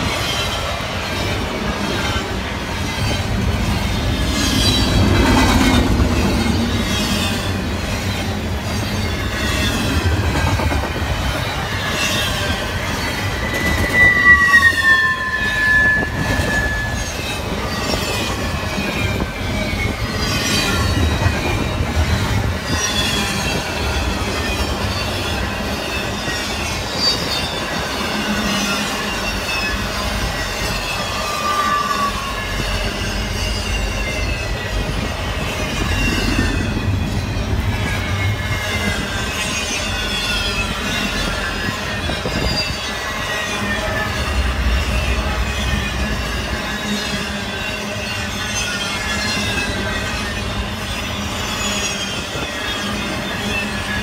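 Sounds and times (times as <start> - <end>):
wheel squeal: 0.0 - 10.6, 11.2 - 54.0
train wheels rumbling on rail: 0.0 - 54.0.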